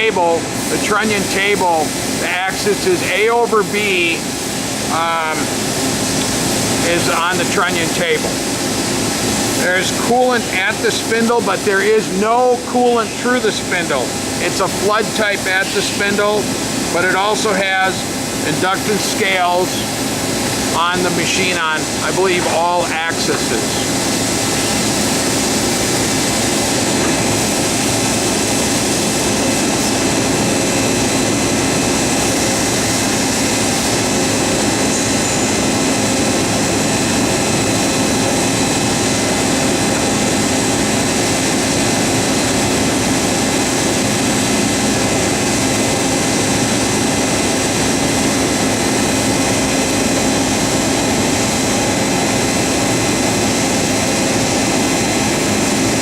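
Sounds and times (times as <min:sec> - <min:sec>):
machining center mechanical whir: 0:00.0 - 0:56.0.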